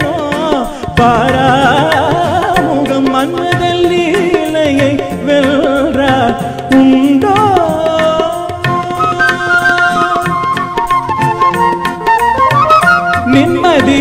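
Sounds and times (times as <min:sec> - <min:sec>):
man singing into a microphone: 0:00.0 - 0:10.8, 0:12.4 - 0:14.0
tabla: 0:00.0 - 0:14.0.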